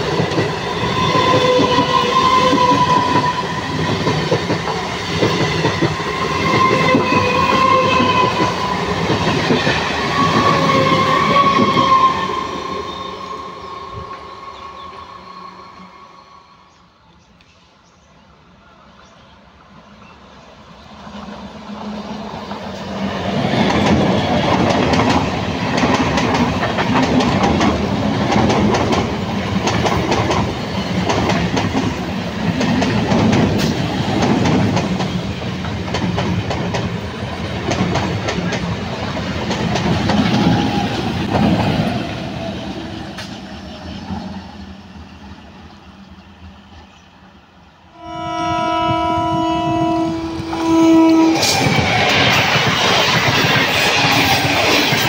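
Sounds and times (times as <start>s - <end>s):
electric train passing: 0.0s - 17.0s, 19.3s - 55.0s.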